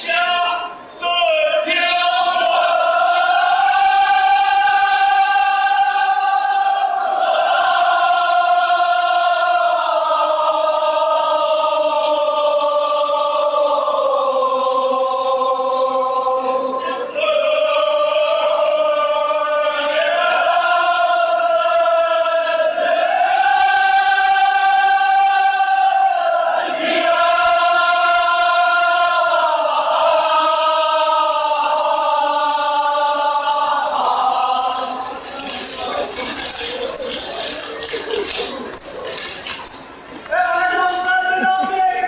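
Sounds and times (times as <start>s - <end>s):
group chanting in unison: 1.4s - 36.3s.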